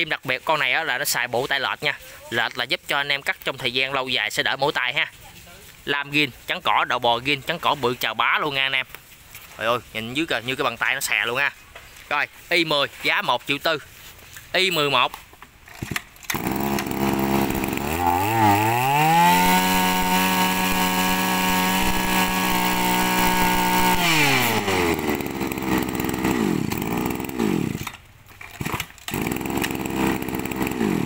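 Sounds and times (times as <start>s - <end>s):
brush cutter engine revving: 4.4s - 31.0s.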